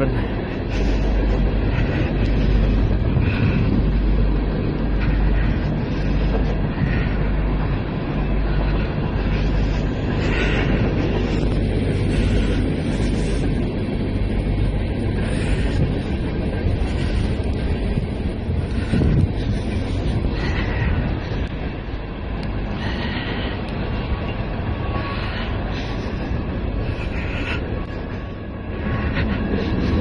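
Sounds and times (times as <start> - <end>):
low hum: 0.0 - 30.0
wind blowing across microphone: 0.0 - 30.0.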